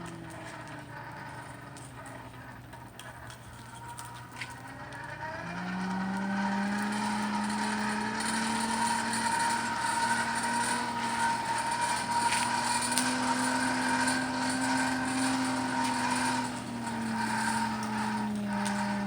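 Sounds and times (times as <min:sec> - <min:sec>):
motor humming: 0:00.0 - 0:19.0.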